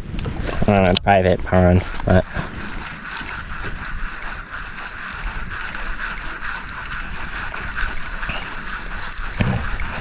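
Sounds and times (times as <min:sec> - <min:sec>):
fishing reel gears clicking and whirring: 0:01.5 - 0:10.0.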